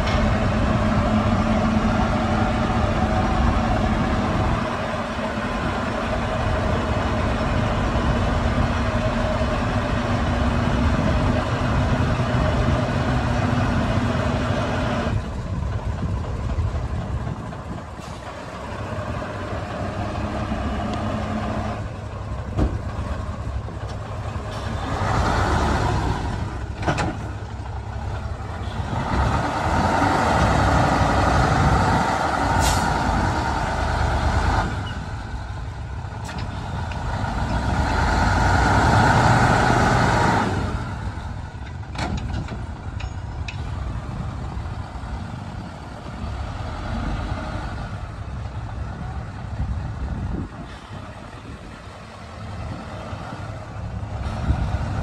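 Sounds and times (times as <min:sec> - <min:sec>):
heavy diesel engines rumbling: 0:00.0 - 0:55.0.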